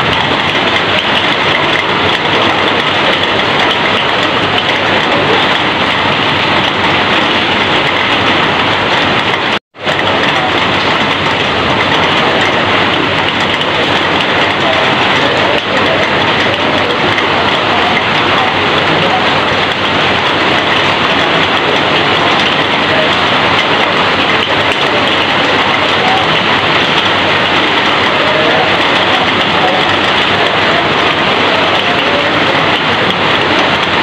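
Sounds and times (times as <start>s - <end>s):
heavy rain on metal roof: 0.0s - 34.0s.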